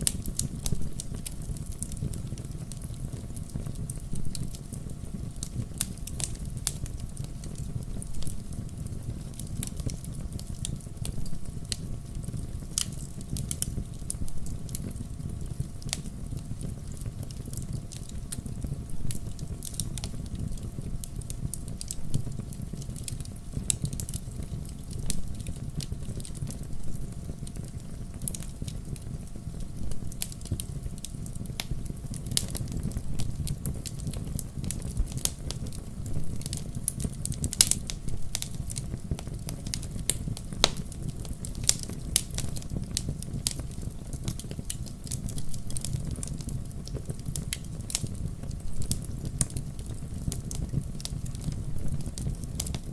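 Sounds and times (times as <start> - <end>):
wood campfire crackling: 0.0 - 52.9.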